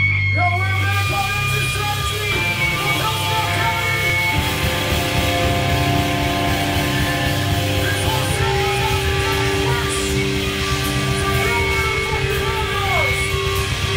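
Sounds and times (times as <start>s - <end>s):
live heavy rock band: 0.0s - 13.9s.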